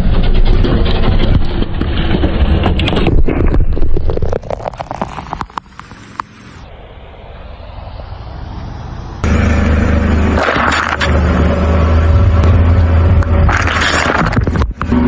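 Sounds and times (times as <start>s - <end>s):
close engine running: 0.0s - 3.4s, 4.5s - 15.0s
passing car engine and tyres: 0.0s - 15.0s.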